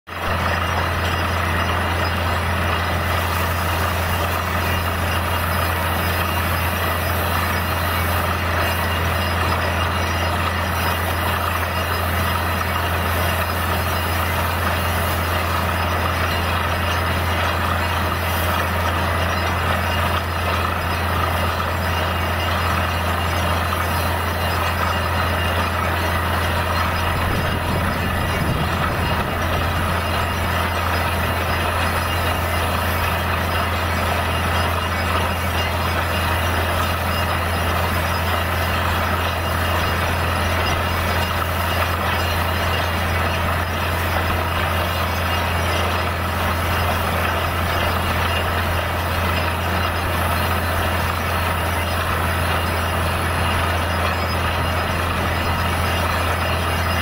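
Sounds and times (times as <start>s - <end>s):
drilling rig engine drone: 0.1s - 57.0s.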